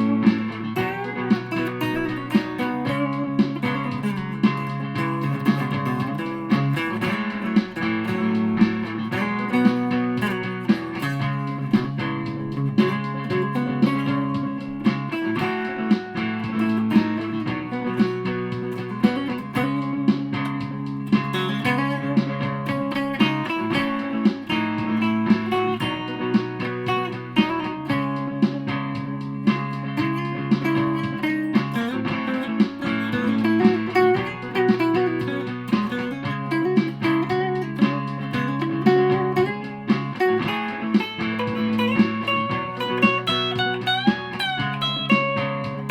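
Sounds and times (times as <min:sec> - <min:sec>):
electric guitar riffing: 0:00.0 - 0:45.9.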